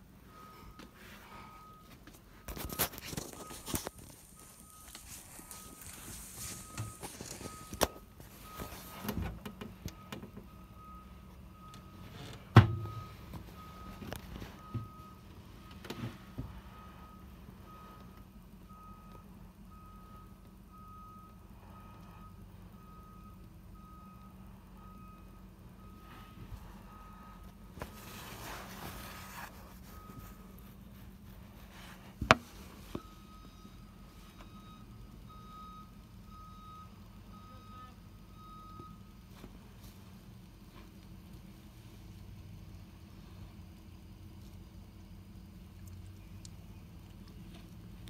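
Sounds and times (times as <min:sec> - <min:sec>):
truck reversing alarm beeping: 0:00.0 - 0:39.6
engine hum: 0:00.0 - 0:48.0.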